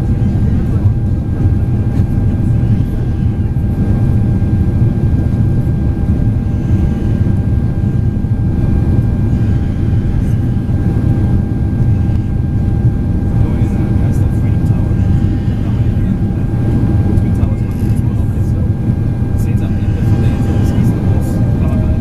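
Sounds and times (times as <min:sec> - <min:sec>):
faint whining tones: 0:00.0 - 0:22.0
jet cabin engine and airflow noise: 0:00.0 - 0:22.0.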